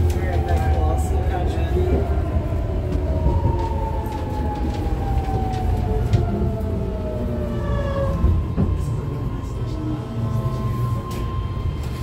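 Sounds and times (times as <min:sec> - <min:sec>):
train propulsion whine: 0:00.0 - 0:12.0
wheels rumbling on track: 0:00.0 - 0:12.0.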